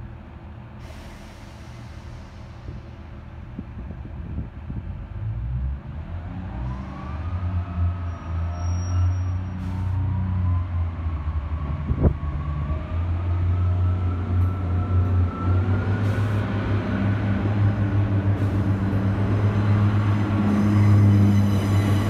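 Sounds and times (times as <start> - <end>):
diesel train engines revving: 0.0 - 22.0.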